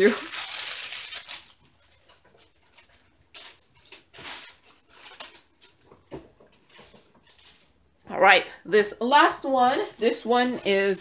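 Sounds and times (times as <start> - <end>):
plastic packaging crinkling: 0.0 - 8.0, 9.2 - 11.0.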